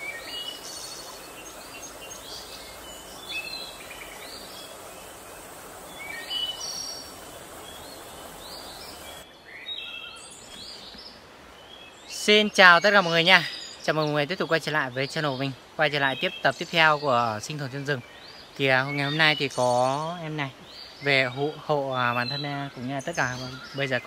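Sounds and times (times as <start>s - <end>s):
stream running over rocks: 0.0s - 9.3s, 10.2s - 24.0s
birds chirping: 0.0s - 24.0s.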